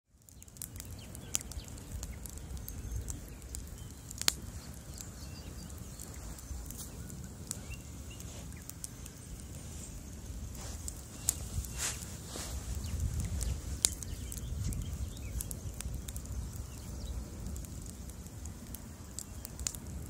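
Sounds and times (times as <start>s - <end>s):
bonfire flames rumbling: 0.1s - 20.0s
burning wood crackling and popping: 0.1s - 20.0s.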